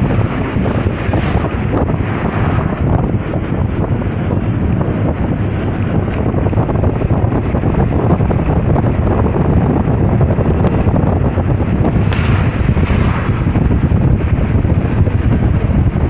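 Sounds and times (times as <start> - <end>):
vehicle road noise: 0.0 - 16.0
wind buffeting microphone: 0.0 - 16.0.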